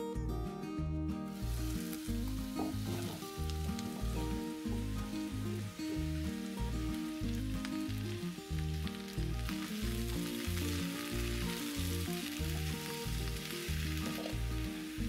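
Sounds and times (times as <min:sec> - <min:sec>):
music with steady bass beat: 0:00.0 - 0:15.0
vegetables sizzling in oil: 0:01.3 - 0:15.0.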